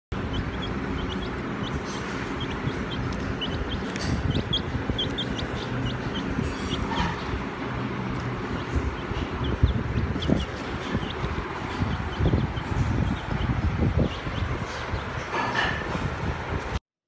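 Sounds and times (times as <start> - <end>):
baby chicks peeping: 0.1 - 16.8
steady background noise: 0.1 - 16.8.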